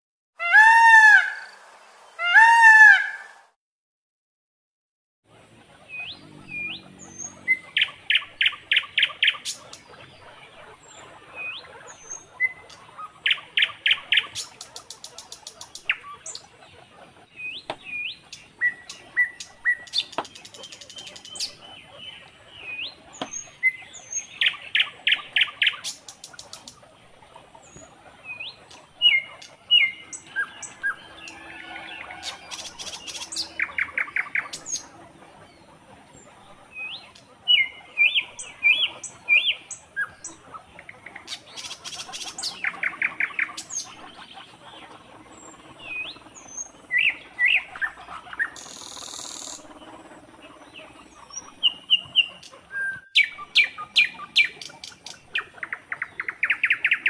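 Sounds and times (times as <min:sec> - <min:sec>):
small birds chirping: 0:05.3 - 0:57.0.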